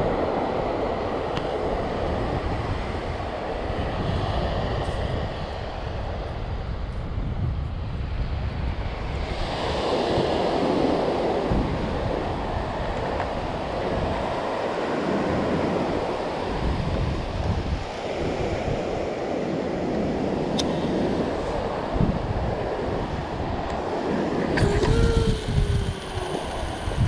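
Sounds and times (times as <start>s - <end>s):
ocean surf breaking on beach: 0.0s - 7.2s, 7.8s - 27.0s
wind rumbling on microphone: 0.0s - 27.0s.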